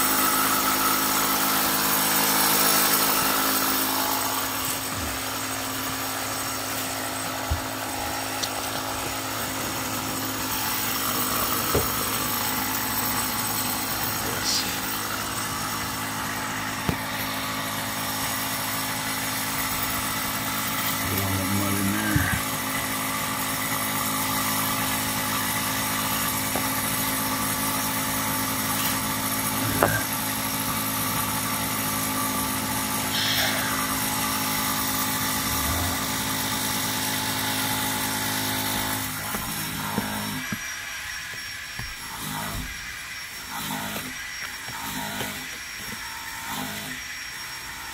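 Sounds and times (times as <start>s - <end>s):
steady machine hum: 0.0s - 47.9s.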